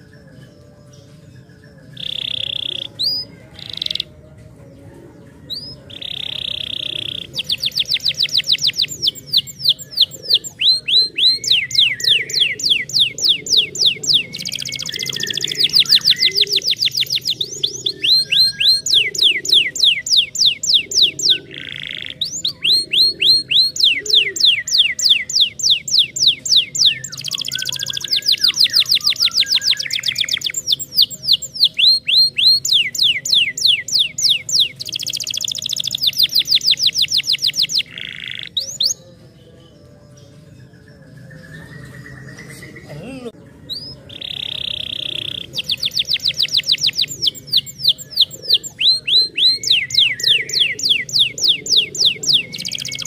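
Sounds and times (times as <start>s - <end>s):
canary singing: 0.0s - 53.0s.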